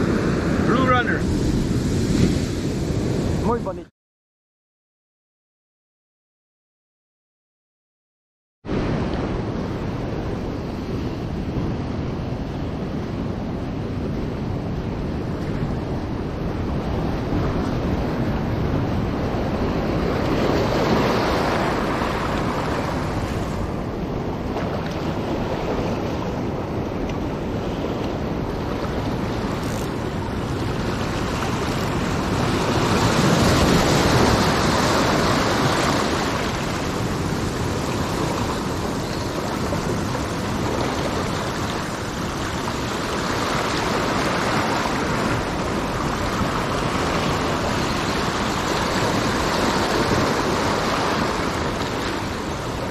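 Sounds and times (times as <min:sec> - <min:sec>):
waves breaking over rocks: 0:00.0 - 0:03.6, 0:08.7 - 0:52.9.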